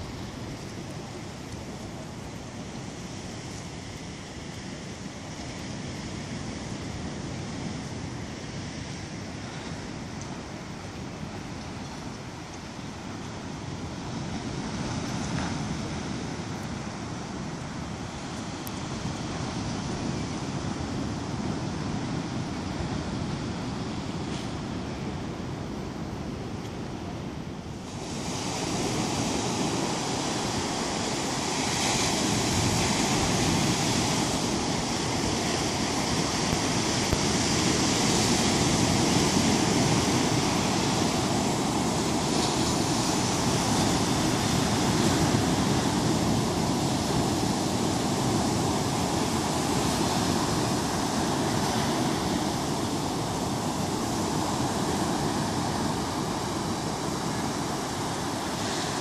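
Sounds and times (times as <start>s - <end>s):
sea surf breaking on beach: 0.0s - 59.0s.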